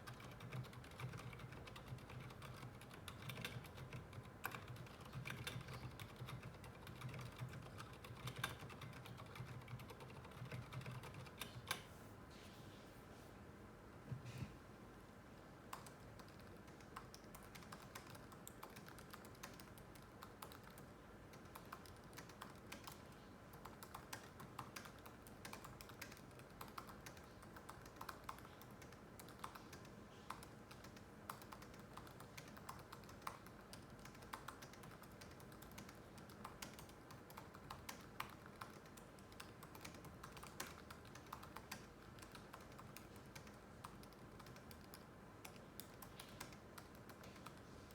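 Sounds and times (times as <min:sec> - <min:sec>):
laptop keyboard typing: 0:00.0 - 0:11.9, 0:15.6 - 0:47.9.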